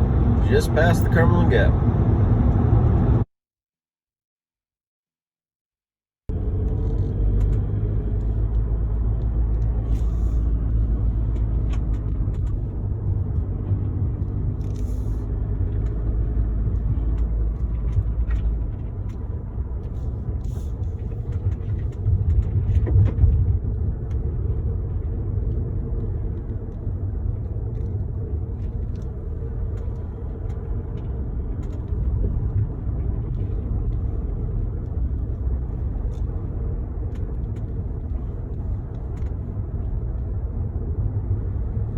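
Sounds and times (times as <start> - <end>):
car road and engine rumble: 0.0 - 3.3, 6.3 - 41.9.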